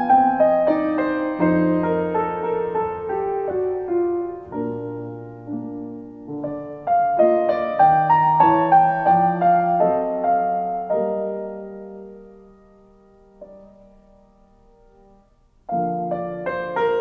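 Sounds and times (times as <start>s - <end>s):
solo piano classical piece: 0.0s - 17.0s.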